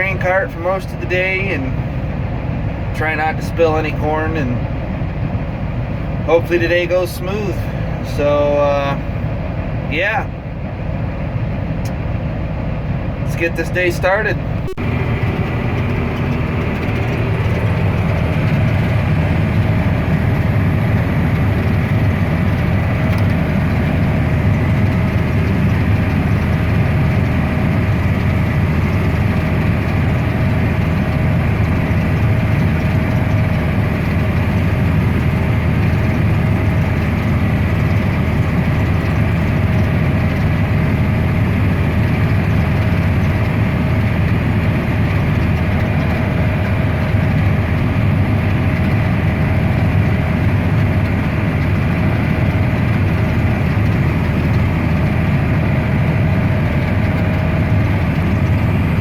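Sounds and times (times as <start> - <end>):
tractor engine rumbling: 0.0 - 59.0.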